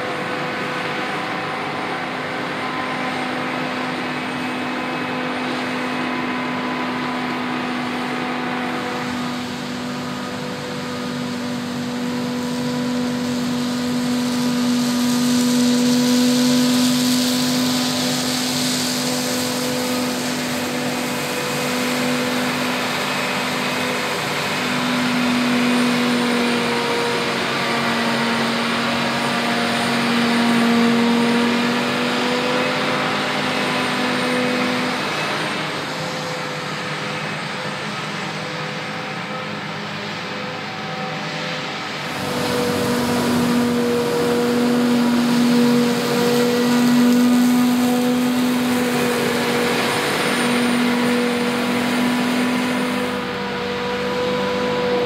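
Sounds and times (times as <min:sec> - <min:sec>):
forage harvester engine drone: 0:00.0 - 0:55.0
tractor engine: 0:00.0 - 0:55.0.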